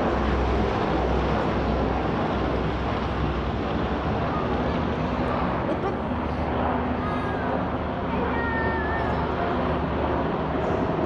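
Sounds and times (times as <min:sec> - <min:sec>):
helicopters flying overhead: 0:00.0 - 0:11.0.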